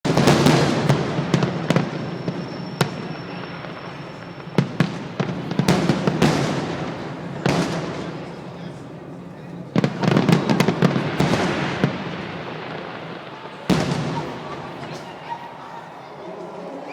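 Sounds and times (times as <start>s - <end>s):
fireworks bangs: 0.1s - 16.2s
fireworks crackling: 0.1s - 16.2s.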